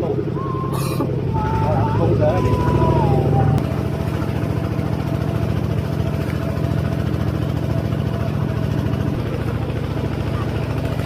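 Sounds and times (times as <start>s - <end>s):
engine running with low pulsing: 0.0s - 11.0s.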